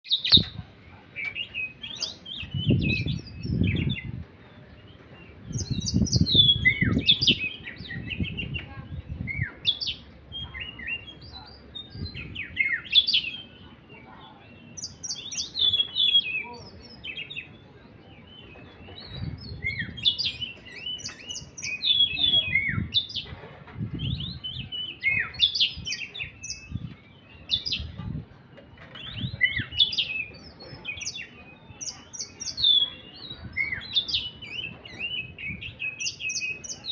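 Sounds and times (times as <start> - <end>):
songbird chirping and twittering: 0.0 - 36.9.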